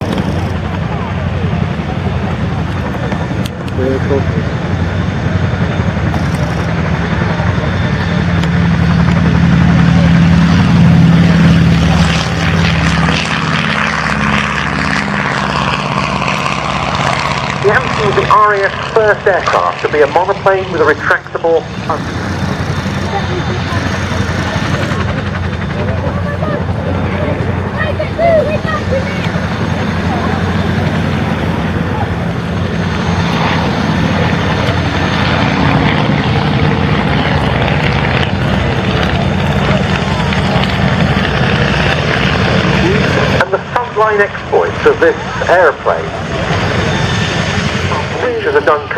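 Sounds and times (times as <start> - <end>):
propeller plane flying past: 0.0 - 48.9.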